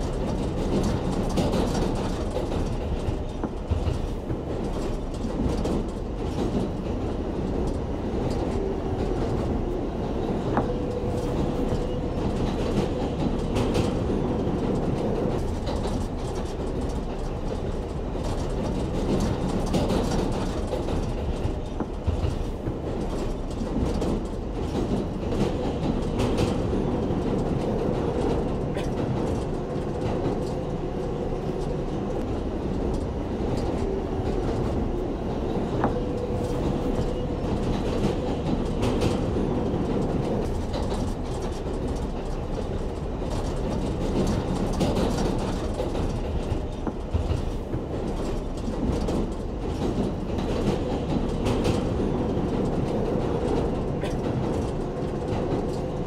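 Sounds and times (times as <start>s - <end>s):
subway train rumble: 0.0s - 56.0s
wheels clicking over rails: 0.0s - 56.0s.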